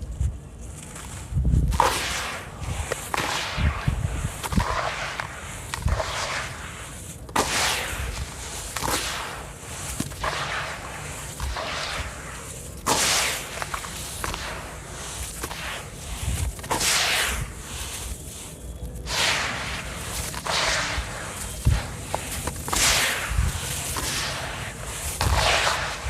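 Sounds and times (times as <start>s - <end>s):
dry sand-cement crunching: 0.0s - 26.0s.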